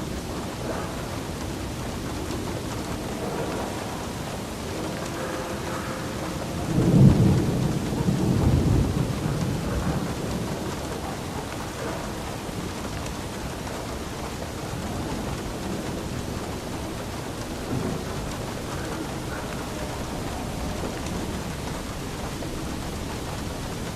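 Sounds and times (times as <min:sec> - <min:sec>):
steady rain falling: 0:00.0 - 0:23.9
thunder rumbling: 0:00.0 - 0:23.9.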